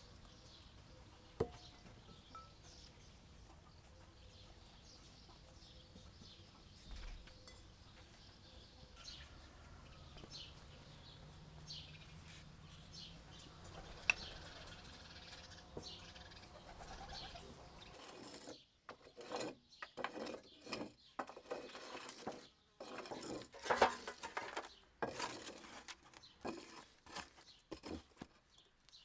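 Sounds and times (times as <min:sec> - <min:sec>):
birds chirping faintly: 0:00.0 - 0:29.0.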